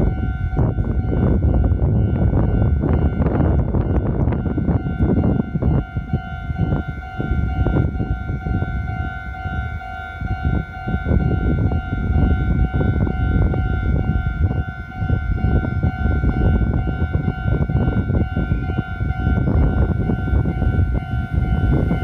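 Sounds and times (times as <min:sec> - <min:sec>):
heavy low rumble: 0:00.0 - 0:22.0
level crossing warning bell: 0:00.0 - 0:22.0.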